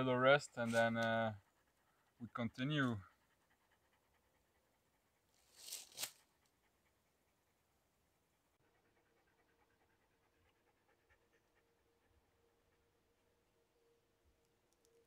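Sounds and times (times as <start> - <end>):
dog panting: 0.0 - 13.6.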